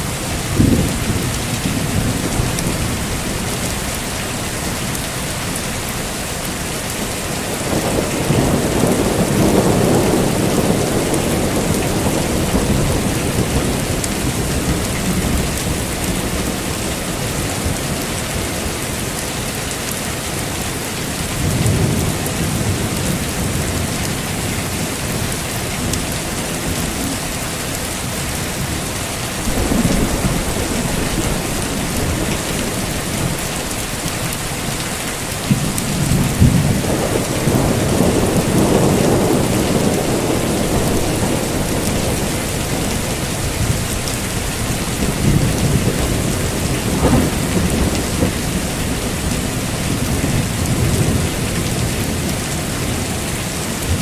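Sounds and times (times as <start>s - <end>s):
rolling thunder: 0.0s - 3.9s, 7.4s - 18.8s, 21.4s - 53.1s
heavy steady rain: 0.0s - 54.0s.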